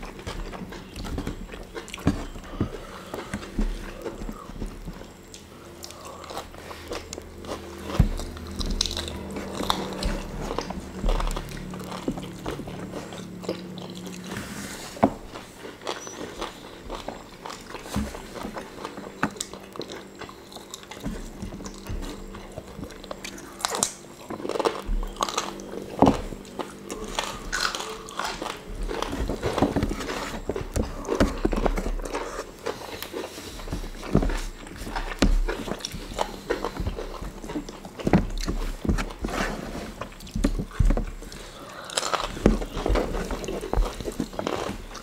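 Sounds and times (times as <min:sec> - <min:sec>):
people chewing food: 0:00.0 - 0:45.0.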